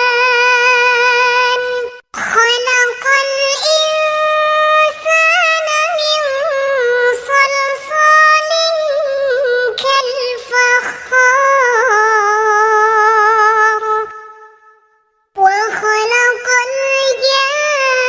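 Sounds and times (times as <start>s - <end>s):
high voice singing long notes: 0.0s - 14.8s, 15.4s - 18.0s.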